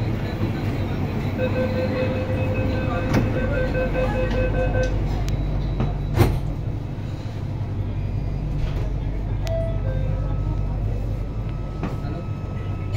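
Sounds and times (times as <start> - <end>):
train car hum: 0.0 - 12.9.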